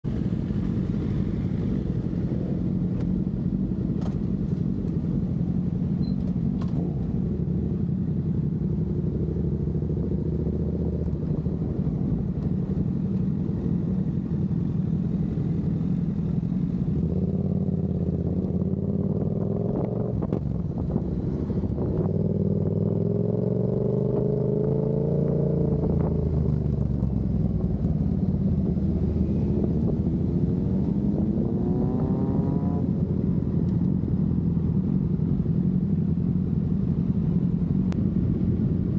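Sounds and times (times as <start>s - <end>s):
motorcycle engines accelerating: 0.1s - 38.9s.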